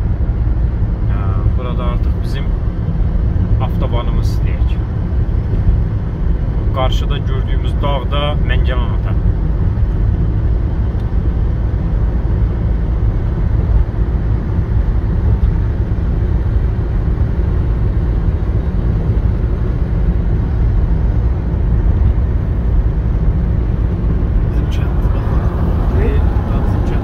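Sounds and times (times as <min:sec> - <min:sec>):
car driving heard from inside: 0:00.0 - 0:27.0.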